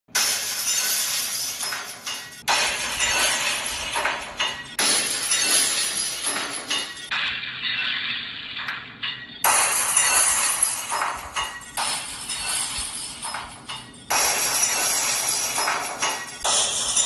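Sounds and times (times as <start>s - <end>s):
glass pipe clattering as it falls: 0.2s - 17.0s.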